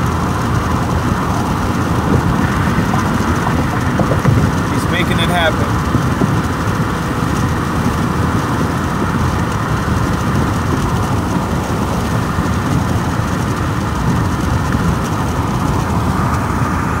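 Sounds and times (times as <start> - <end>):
car interior road and engine noise: 0.0 - 17.0.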